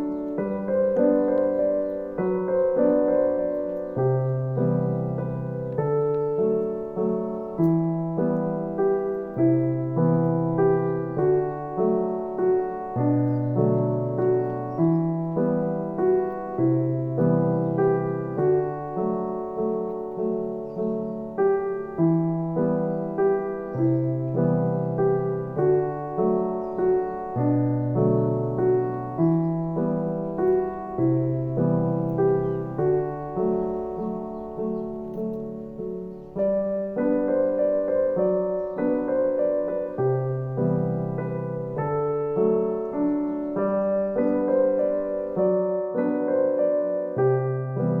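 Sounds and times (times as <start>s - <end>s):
gentle piano melody: 0.0s - 48.0s.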